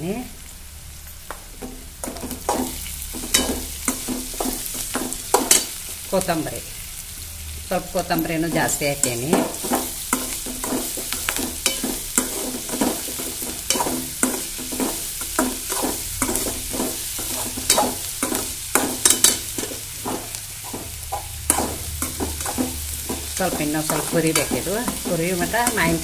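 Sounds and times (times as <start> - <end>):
oil sizzling: 0.0 - 26.0
spoon scraping a pan: 1.1 - 6.0, 8.0 - 26.0.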